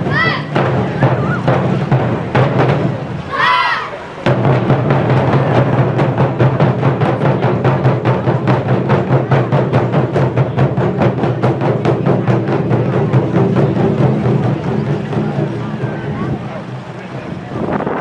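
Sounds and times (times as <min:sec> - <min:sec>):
taiko drums playing fast rhythm: 0:00.0 - 0:03.3, 0:04.2 - 0:17.8.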